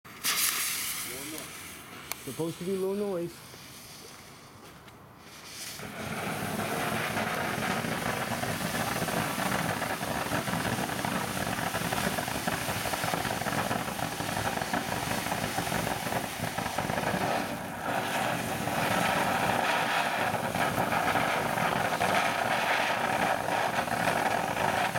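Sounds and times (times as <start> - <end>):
firework fountain hissing: 0.1 - 4.6, 5.2 - 24.9.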